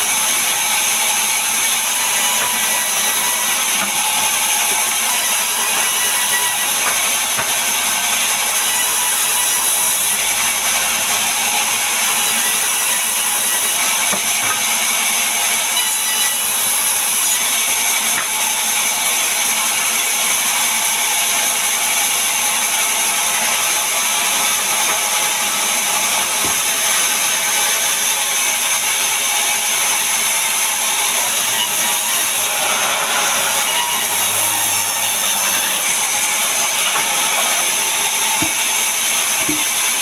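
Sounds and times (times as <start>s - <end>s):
band saw cutting timber: 0.0s - 40.0s.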